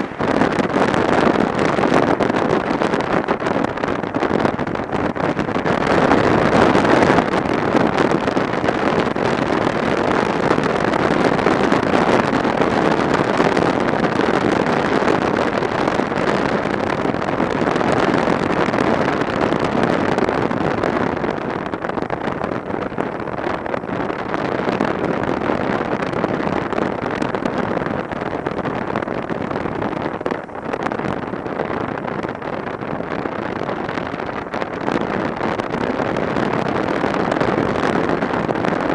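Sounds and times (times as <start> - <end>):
road and engine noise: 0.0 - 38.9
wind rushing over microphone: 0.0 - 38.9.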